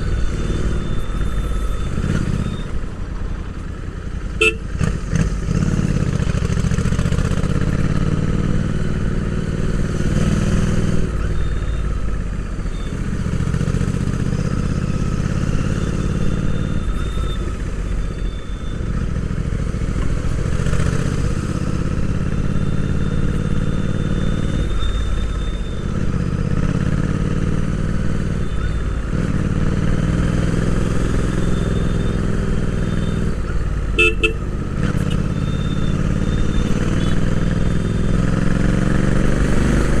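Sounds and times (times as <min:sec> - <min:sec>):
motorcycle engine running: 0:00.0 - 0:11.1, 0:12.1 - 0:40.0.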